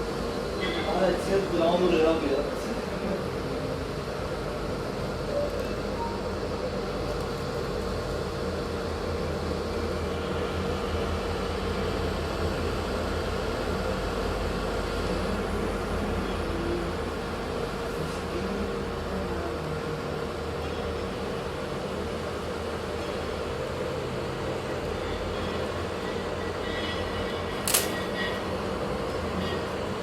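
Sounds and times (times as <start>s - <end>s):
mechanical hum: 0.0s - 30.0s.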